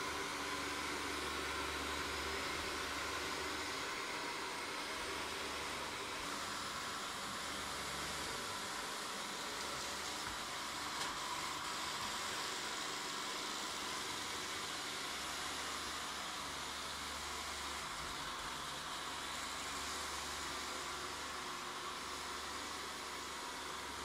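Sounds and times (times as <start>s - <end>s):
robot vacuum running: 0.0s - 24.0s.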